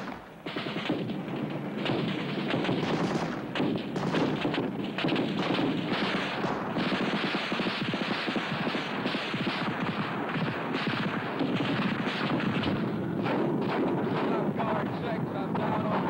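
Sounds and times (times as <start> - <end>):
automatic rifle fire: 0.0 - 14.8.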